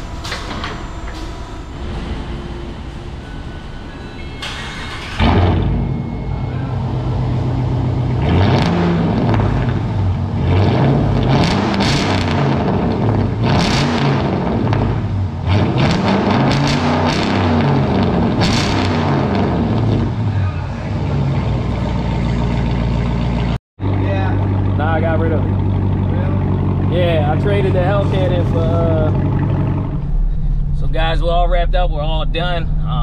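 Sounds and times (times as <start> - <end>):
car engine starting and idling: 0.0 - 33.0
car engine revving: 4.5 - 33.0.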